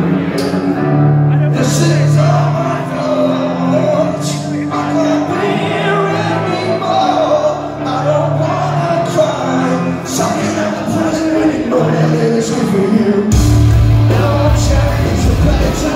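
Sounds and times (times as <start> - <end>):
rock band playing: 0.0 - 15.9
man singing: 1.3 - 15.9.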